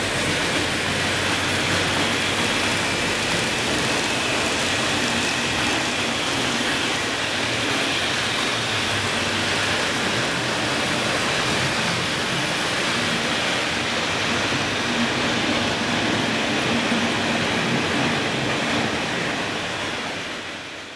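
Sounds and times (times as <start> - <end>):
model trains running on track: 0.0 - 20.9.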